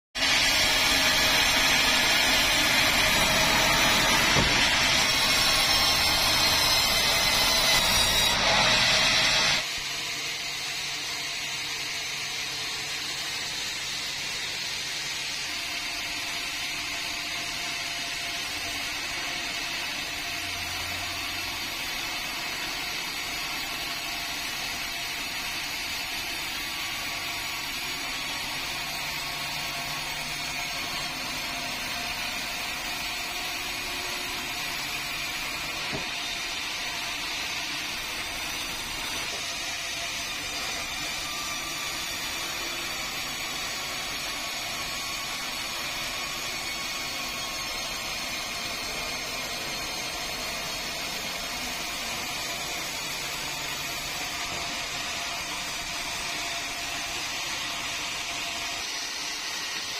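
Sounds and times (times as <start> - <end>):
band saw cutting log: 0.2 - 59.9.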